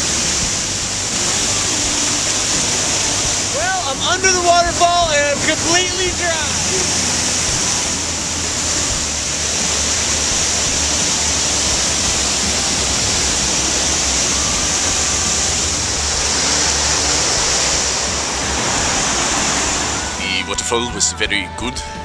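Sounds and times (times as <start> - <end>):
waterfall rushing: 0.0 - 21.2.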